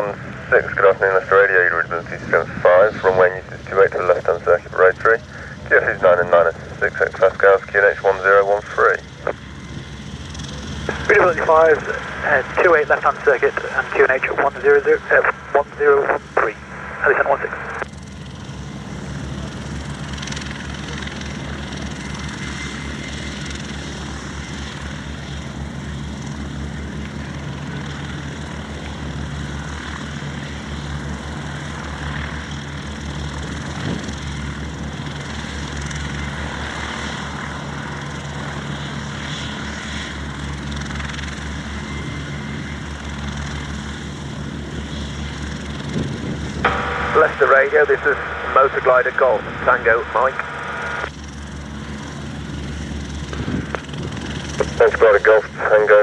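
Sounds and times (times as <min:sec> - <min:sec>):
propeller aircraft engine: 0:00.0 - 0:56.0.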